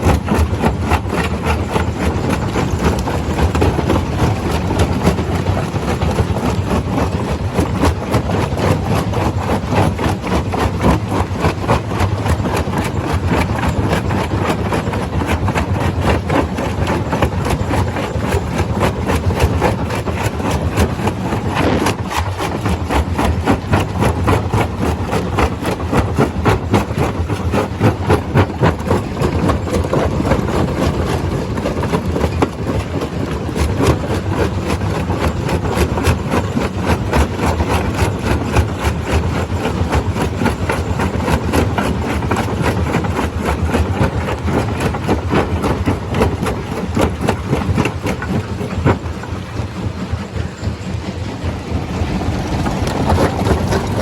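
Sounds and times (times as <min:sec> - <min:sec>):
low machine hum: 0:00.0 - 0:54.0
rock clattering in crusher: 0:00.0 - 0:54.0.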